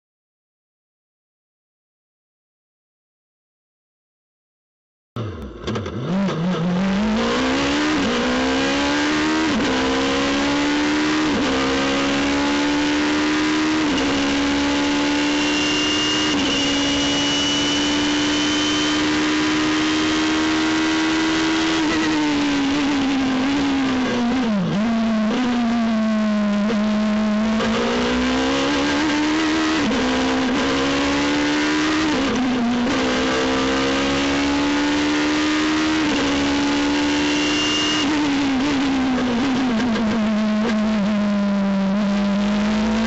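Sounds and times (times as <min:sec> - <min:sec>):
race car engine accelerating: 0:05.2 - 0:43.0.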